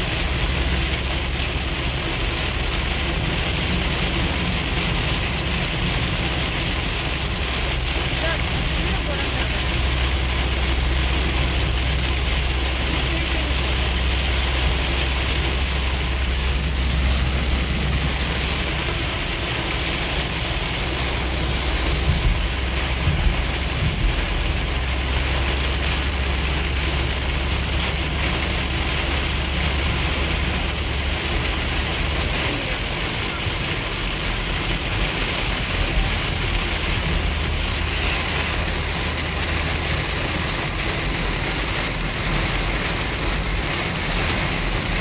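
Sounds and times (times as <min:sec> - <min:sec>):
heavy rain on car roof: 0:00.0 - 0:45.0
tyres and engine rumble: 0:00.0 - 0:45.0.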